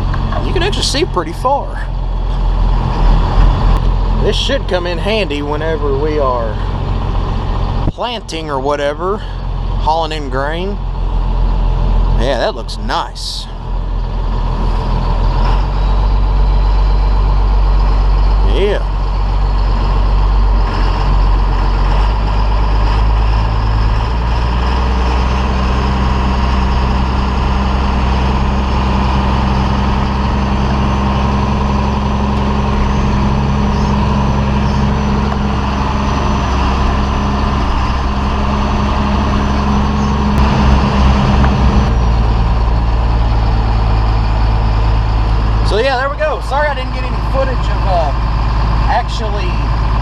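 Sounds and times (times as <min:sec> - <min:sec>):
tractor diesel engine idling: 0:00.0 - 0:50.0.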